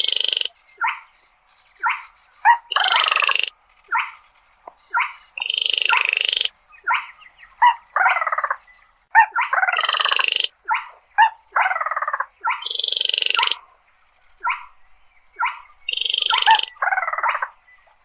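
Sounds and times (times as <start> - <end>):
crake rattling calls: 0.0 - 18.0.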